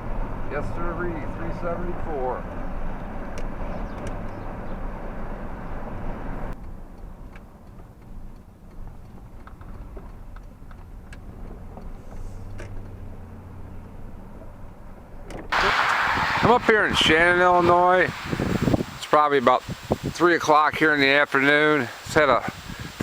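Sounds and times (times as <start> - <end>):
car interior rumble: 0.0 - 20.4.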